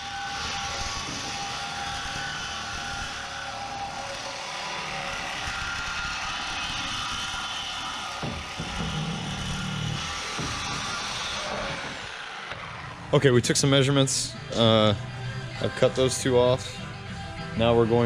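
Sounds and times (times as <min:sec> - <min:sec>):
power tool cutting steel: 0:00.0 - 0:16.8.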